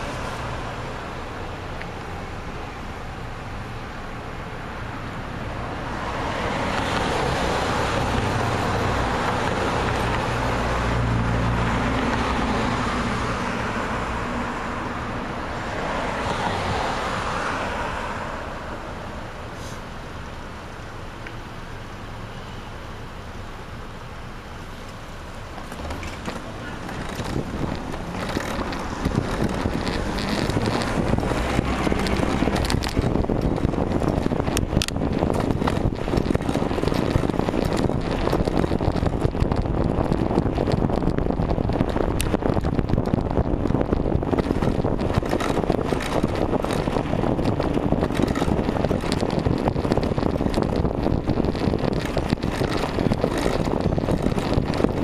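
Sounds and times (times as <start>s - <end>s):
wind rushing over microphone: 4.7s - 19.5s, 25.7s - 55.0s.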